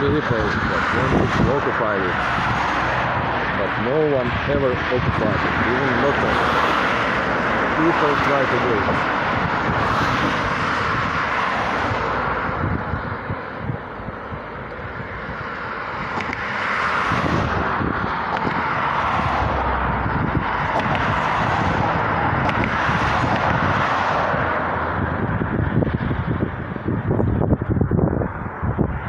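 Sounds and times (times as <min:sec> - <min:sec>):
road traffic passing: 0:00.0 - 0:29.0
wind buffeting microphone: 0:00.0 - 0:29.0.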